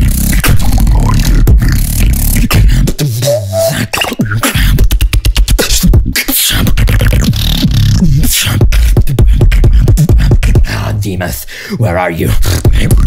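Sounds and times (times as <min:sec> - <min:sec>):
beatbox clicks and snares: 0:00.0 - 0:10.7, 0:12.3 - 0:13.0
deep beatbox bass: 0:00.0 - 0:13.0.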